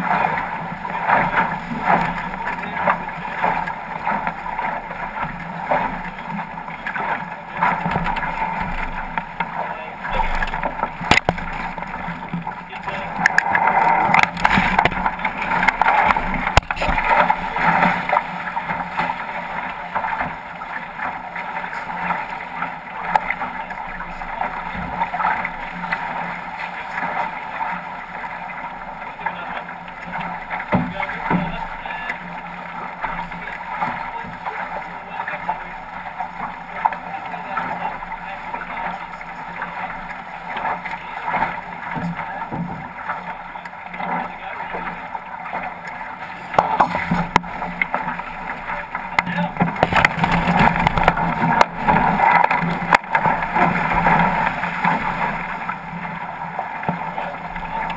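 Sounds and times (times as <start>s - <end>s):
water rushing along a boat hull: 0.0s - 57.9s.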